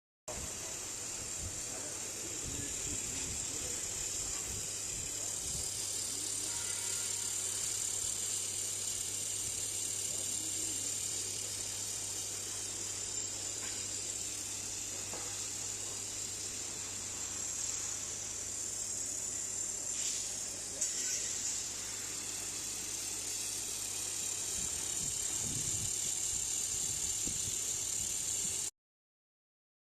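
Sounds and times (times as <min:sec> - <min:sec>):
laser welding machine hissing: 0:00.3 - 0:28.7.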